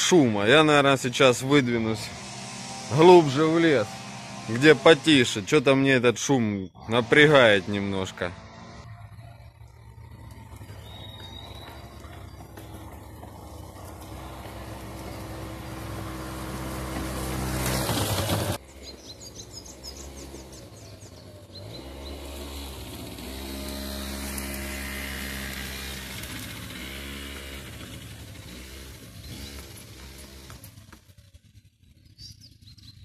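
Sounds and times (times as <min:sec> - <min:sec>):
motor scooter engine running: 0:00.0 - 0:05.4, 0:06.8 - 0:33.0.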